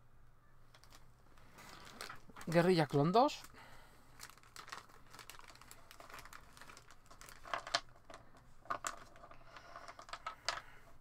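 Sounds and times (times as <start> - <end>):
plastic bag crinkling: 0.7 - 10.6.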